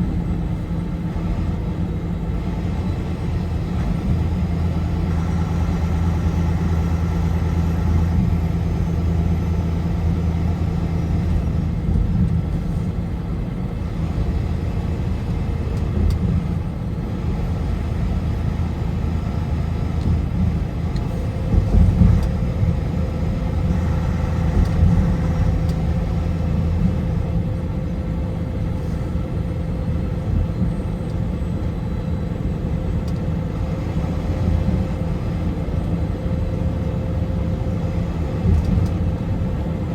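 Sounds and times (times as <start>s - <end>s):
engine and road noise drone: 0.0s - 39.9s.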